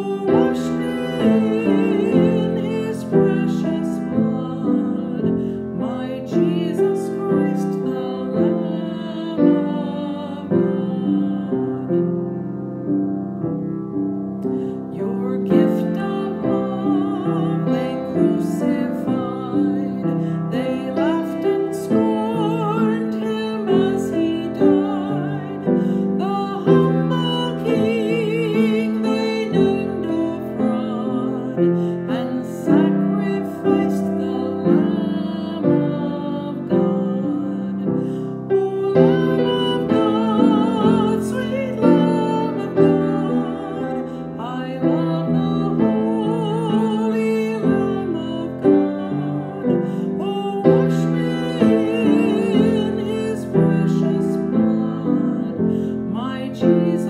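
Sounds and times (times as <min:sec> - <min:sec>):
woman singing with vibrato: 0:00.0 - 0:12.5, 0:14.4 - 0:57.0
piano accompaniment: 0:00.0 - 0:57.0.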